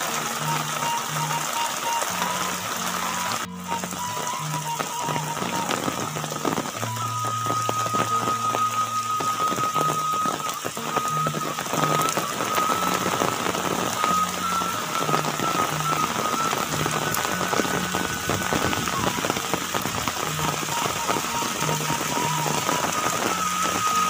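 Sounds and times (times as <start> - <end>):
rain pattering on roofs and foliage: 0.0 - 24.0
soft background music: 0.0 - 24.0.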